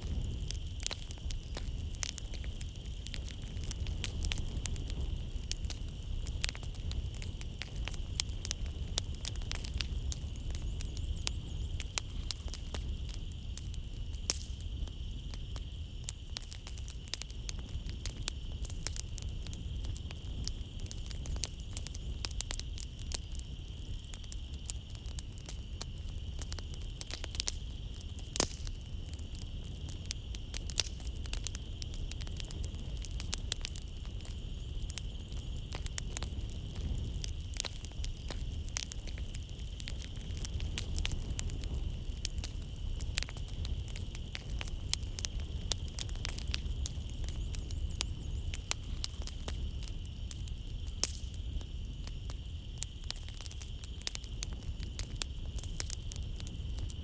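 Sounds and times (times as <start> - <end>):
insect chirring: 0.0 - 57.0
rumble of flames: 0.0 - 57.0
wood fire crackling: 0.0 - 57.0.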